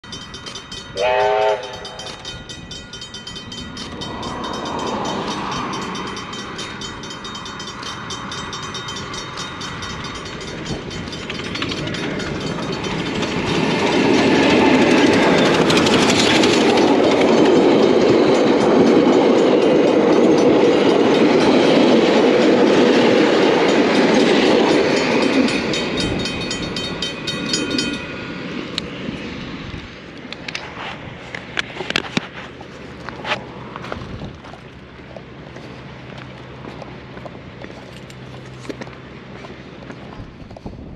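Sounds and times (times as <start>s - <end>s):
steam train passing: 0.0s - 40.9s.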